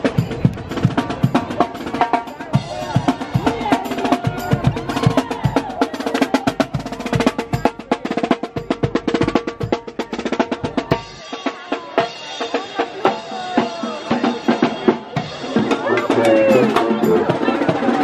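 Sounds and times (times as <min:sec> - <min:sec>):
fast busy drumming: 0:00.0 - 0:18.0.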